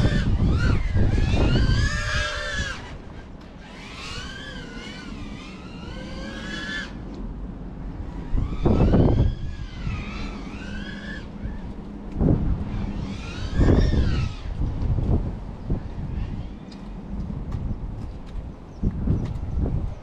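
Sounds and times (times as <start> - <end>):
drone motors whining: 0.0 - 20.0
low rumbling bursts: 0.0 - 20.0.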